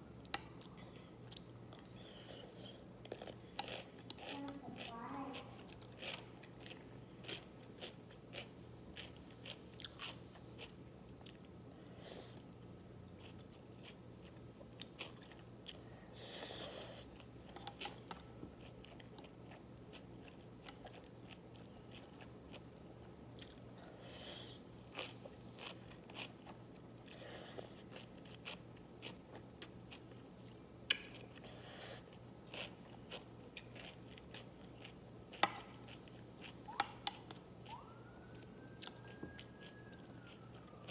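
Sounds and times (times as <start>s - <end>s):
faint low hum: 0.0s - 40.9s
chewing with crisp crunches: 0.2s - 40.9s.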